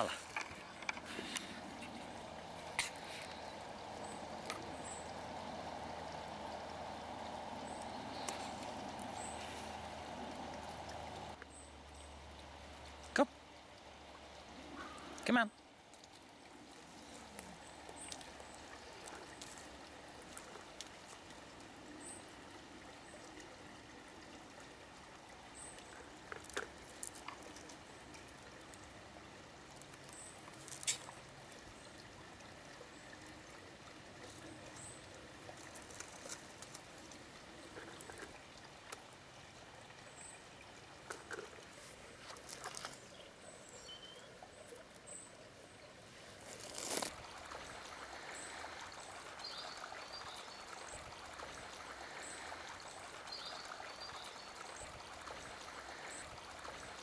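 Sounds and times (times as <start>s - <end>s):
soft steady hiss: 0.0s - 57.0s.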